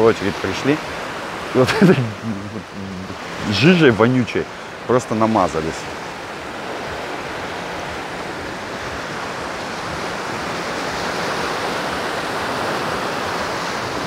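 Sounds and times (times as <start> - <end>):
small waves washing on shore: 0.0 - 14.0.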